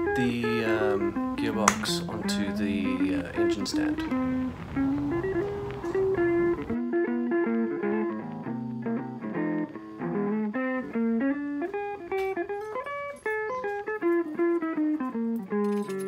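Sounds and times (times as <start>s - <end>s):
guitar instrumental music: 0.0s - 16.0s.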